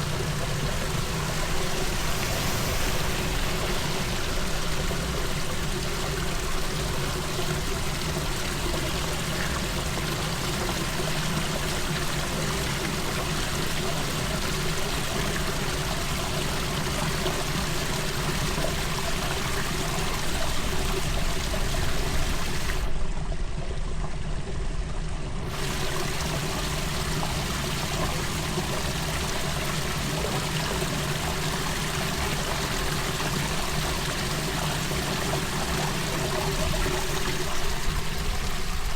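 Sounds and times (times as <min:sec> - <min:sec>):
floodwater pouring and rushing: 0:00.0 - 0:23.8, 0:25.0 - 0:38.9.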